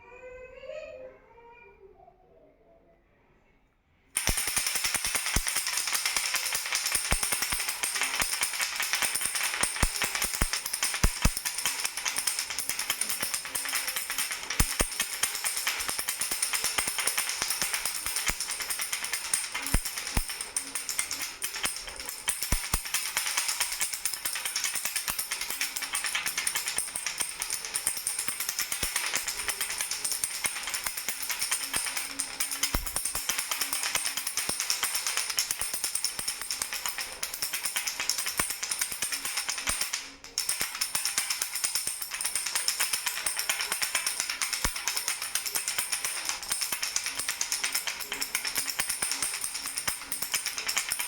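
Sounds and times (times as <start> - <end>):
baby rattle shaken: 4.2 - 51.0.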